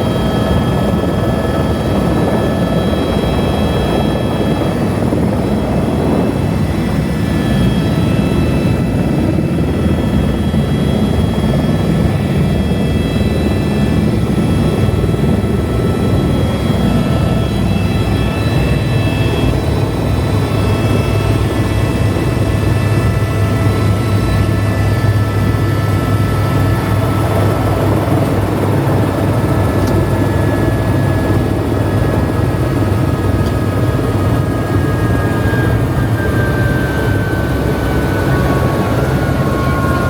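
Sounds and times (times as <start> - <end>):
helicopter rotor and turbine drone: 0.0 - 40.0.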